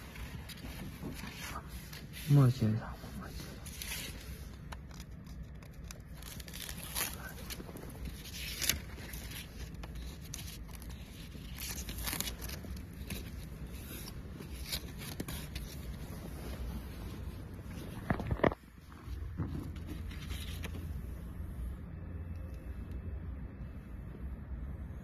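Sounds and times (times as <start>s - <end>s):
machine low hum: 0.0s - 25.0s.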